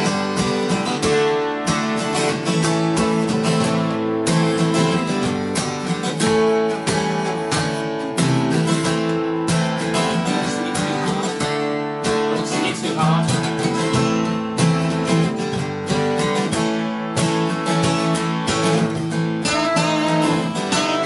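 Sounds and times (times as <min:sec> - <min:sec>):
acoustic guitars strumming chords: 0:00.0 - 0:21.0.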